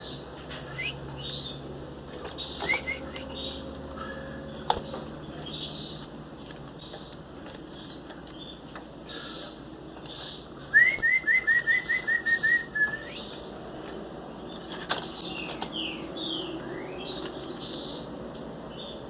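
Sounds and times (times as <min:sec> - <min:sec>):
chicks cheeping: 0:00.0 - 0:19.0.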